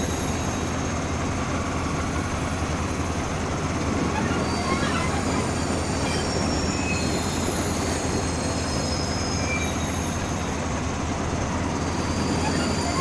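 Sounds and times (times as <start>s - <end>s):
train rumbling on rails: 0.0s - 13.0s
wheel squeals: 0.0s - 13.0s.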